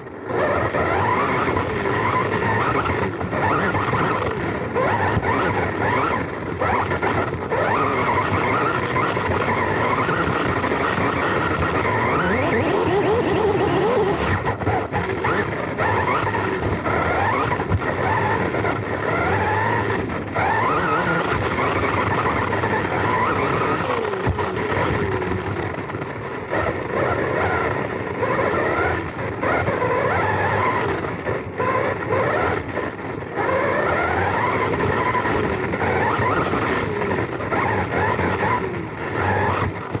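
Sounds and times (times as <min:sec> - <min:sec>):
tyres and chassis on track: 0:00.0 - 0:40.0
rc car motor whine: 0:00.1 - 0:40.0.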